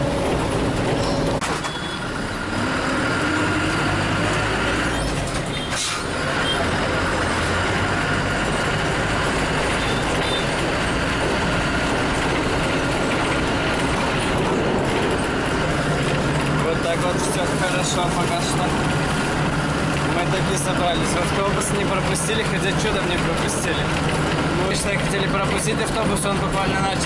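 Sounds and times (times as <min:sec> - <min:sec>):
bus engine droning: 0:00.0 - 0:27.0.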